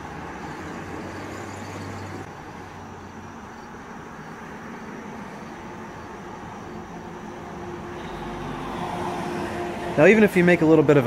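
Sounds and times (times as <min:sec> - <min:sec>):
outdoor background hum and hiss: 0:00.0 - 0:11.0.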